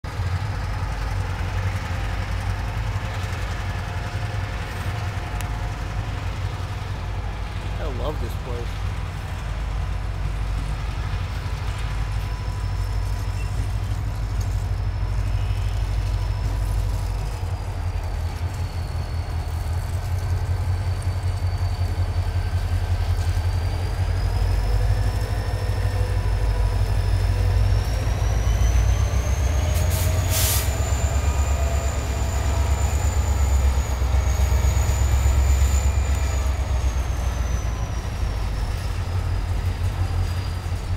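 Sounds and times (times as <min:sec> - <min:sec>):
locomotive engine rumble: 0:00.0 - 0:40.9
steel wheels squealing on rails: 0:00.2 - 0:40.9.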